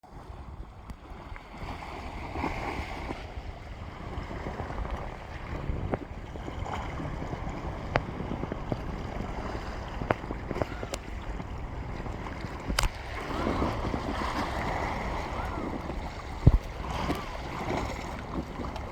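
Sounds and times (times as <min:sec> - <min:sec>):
wind buffeting microphone: 0:00.0 - 0:18.9
sea waves washing on shore: 0:00.2 - 0:18.9.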